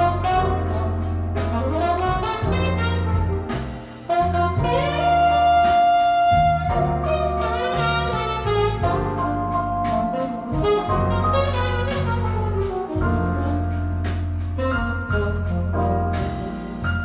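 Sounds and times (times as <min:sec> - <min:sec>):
jazz saxophone over bass: 0:00.0 - 0:17.0.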